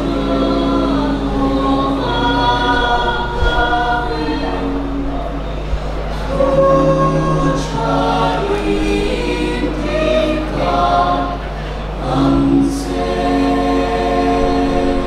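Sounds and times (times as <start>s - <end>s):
choir singing a cappella: 0.0s - 15.0s
steady low hum: 0.0s - 15.0s.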